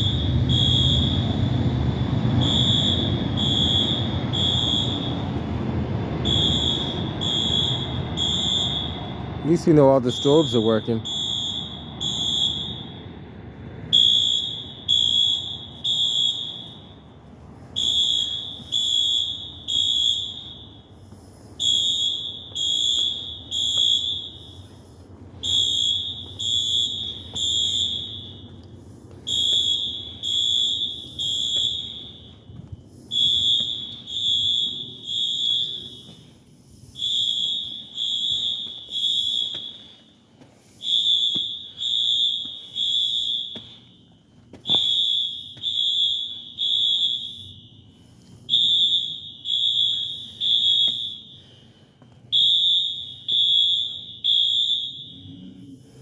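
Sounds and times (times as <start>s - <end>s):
fire alarm beeping: 0.0s - 56.0s.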